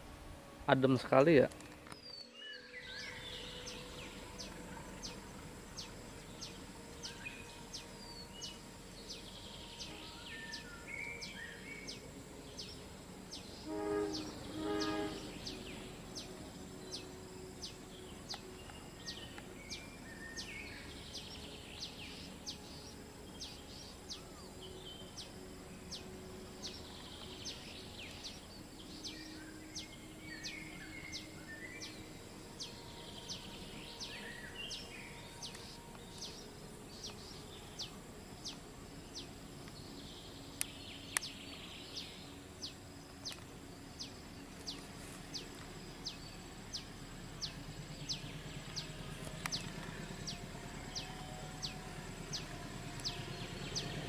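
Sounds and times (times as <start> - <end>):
distant locomotive horn blasts: 0.0 - 1.5, 2.2 - 54.0.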